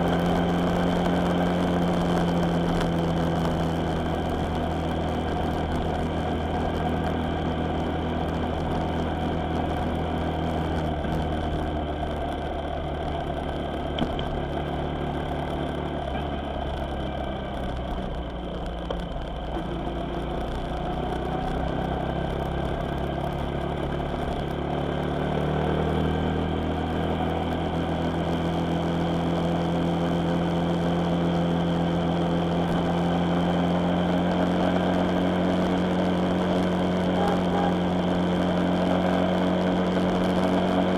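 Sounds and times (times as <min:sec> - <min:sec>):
road noise: 0:00.0 - 0:40.9
vehicle engine running: 0:00.0 - 0:40.9.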